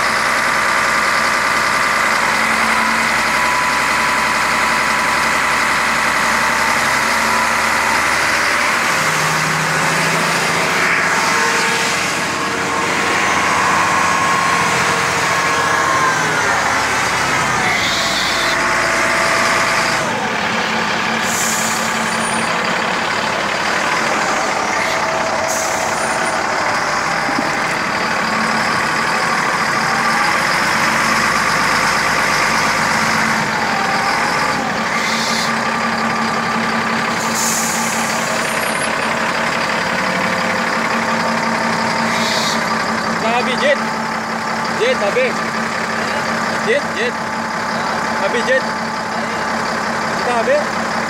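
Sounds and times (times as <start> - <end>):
wheel loader diesel engine running: 0.0 - 51.0.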